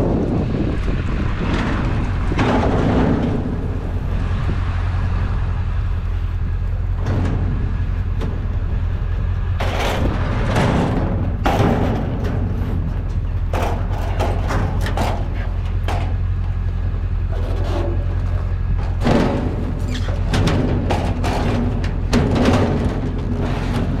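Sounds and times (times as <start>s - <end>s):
scraping rattling bursts: 0.0s - 24.0s
vehicle engine idling: 0.0s - 24.0s.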